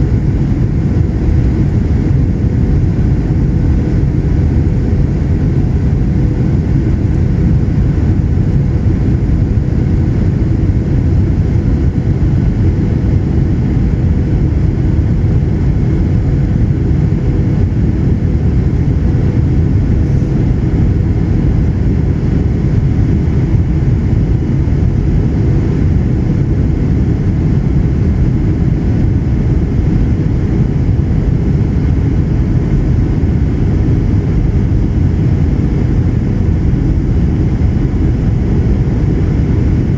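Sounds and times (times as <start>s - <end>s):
airflow rush in aircraft cabin: 0.0s - 39.9s
faint steady hum: 0.0s - 39.9s
jet engines heard from cabin: 0.0s - 39.9s.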